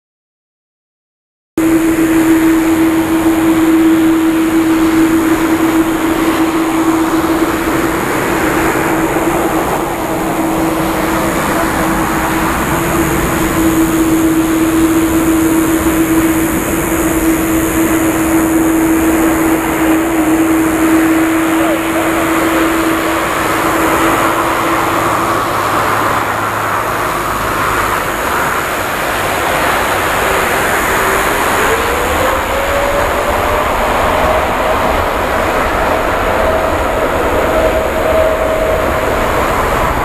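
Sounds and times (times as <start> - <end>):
jet engines idling: 1.6 - 40.0.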